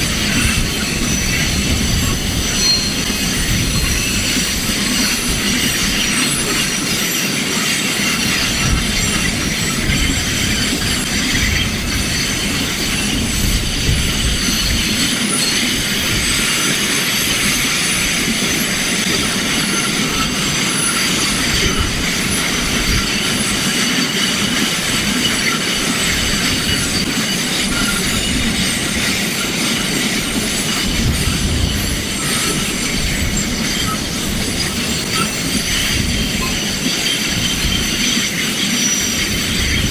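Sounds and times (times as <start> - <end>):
train wagons rumbling: 0.0 - 39.9
high-pitched wheel squeal: 0.3 - 39.9.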